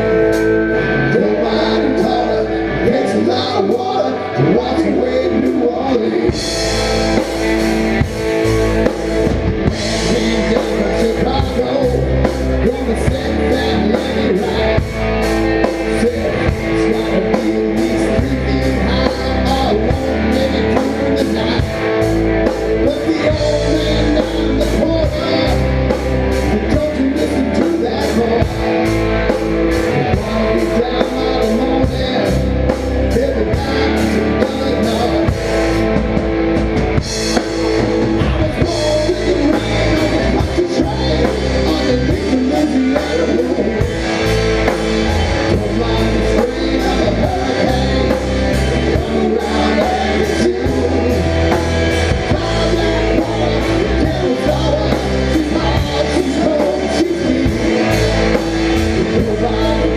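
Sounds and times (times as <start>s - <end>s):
rock band instrumental: 0.0s - 59.9s
drum kit beat: 6.2s - 59.9s.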